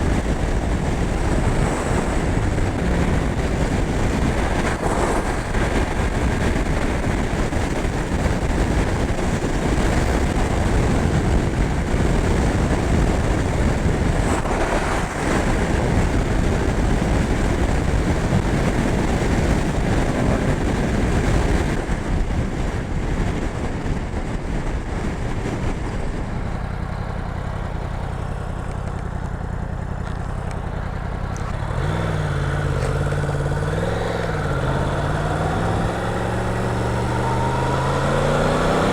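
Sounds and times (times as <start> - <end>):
wind rush: 0.0 - 28.2, 30.8 - 38.9
motorcycle engine: 0.0 - 38.9.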